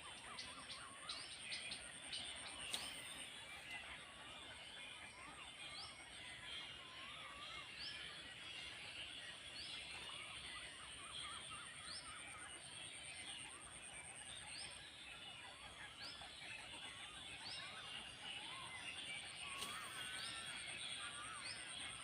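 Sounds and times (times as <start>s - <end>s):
bird chirping: 0.0s - 22.0s
birds warbling: 0.0s - 22.0s.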